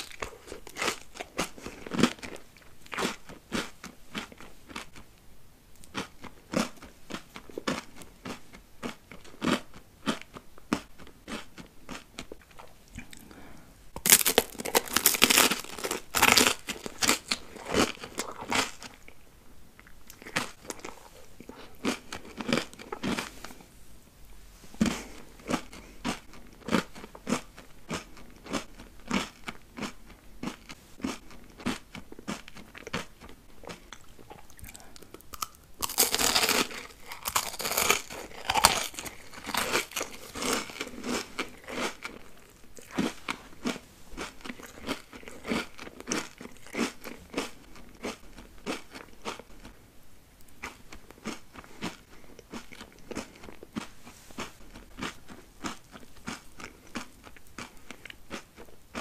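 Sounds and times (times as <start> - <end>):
crunchy chewing: 0.0 - 5.1, 5.8 - 19.2, 19.8 - 23.6, 24.8 - 49.8, 50.4 - 59.0.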